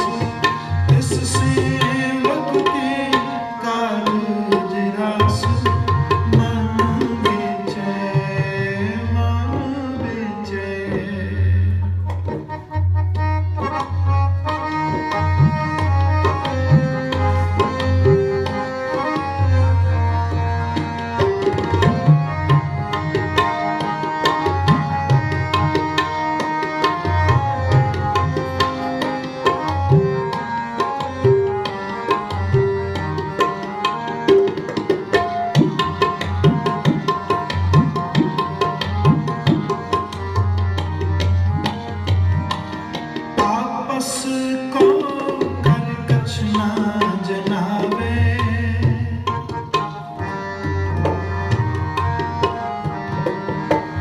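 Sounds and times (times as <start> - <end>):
harmonium melody notes: 0.0 - 54.0
tabla playing a steady rhythm: 0.0 - 54.0.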